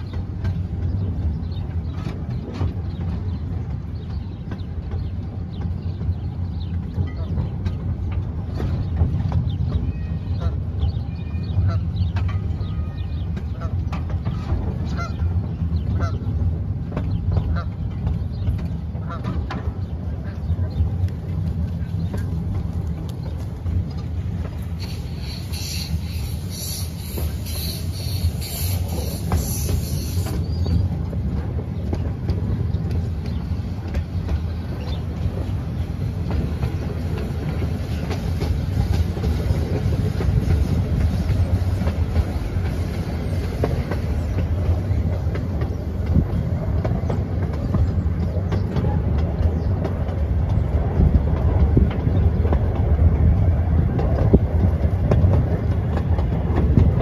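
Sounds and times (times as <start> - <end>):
small train rumbling: 0.0 - 57.0
wheels clacking over rails: 0.0 - 57.0.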